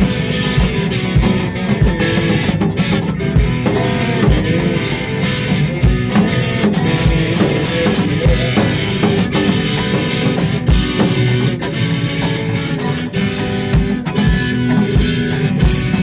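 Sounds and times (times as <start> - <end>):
drum kit beat: 0.0 - 16.0
electric guitar playing: 0.0 - 16.0.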